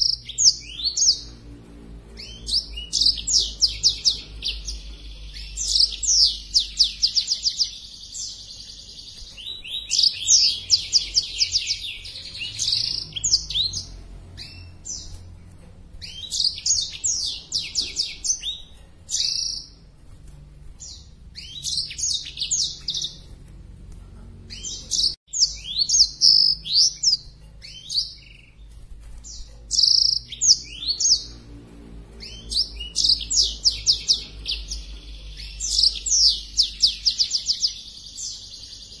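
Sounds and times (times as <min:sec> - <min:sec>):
bird singing chirps and trills: 0:00.0 - 0:39.0.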